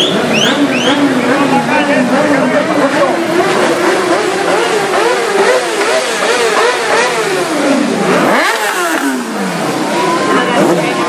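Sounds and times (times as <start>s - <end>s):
motorcycles revving: 0.0s - 11.0s.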